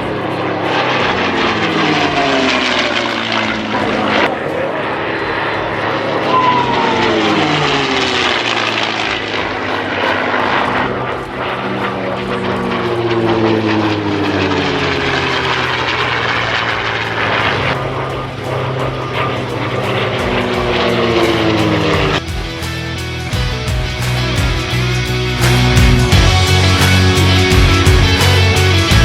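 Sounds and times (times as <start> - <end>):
propeller plane engine flying past: 0.0 - 29.0.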